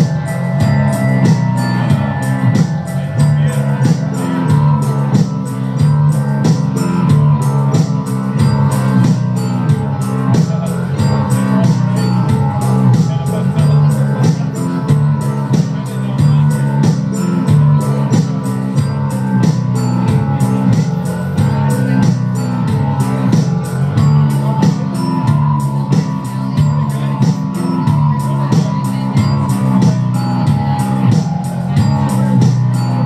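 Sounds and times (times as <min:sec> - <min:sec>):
drum beat: 0:00.0 - 0:33.0
electric bass guitar: 0:00.0 - 0:33.0
keyboard synthesizer: 0:00.0 - 0:33.0.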